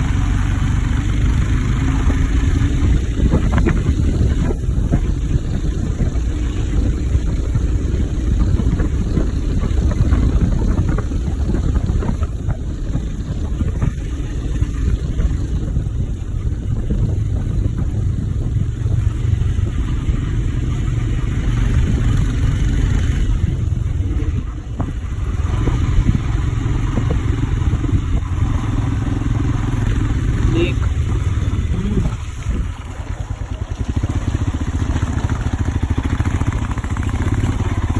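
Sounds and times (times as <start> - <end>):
motorcycle engine running: 0.0 - 37.9
wind rumble on microphone: 0.0 - 37.9.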